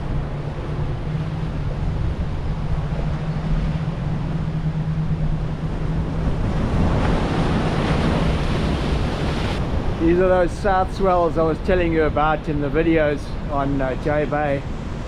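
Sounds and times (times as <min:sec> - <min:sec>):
heavy surf breaking: 0:00.0 - 0:15.0
low engine hum: 0:00.0 - 0:15.0
wind buffeting microphone: 0:00.0 - 0:15.0.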